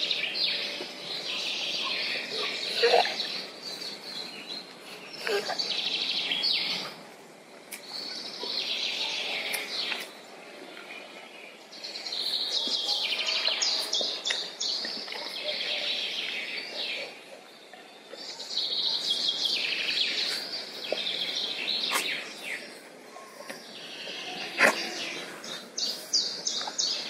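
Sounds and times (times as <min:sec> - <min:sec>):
songbirds trilling: 0:00.0 - 0:07.2, 0:07.8 - 0:27.0.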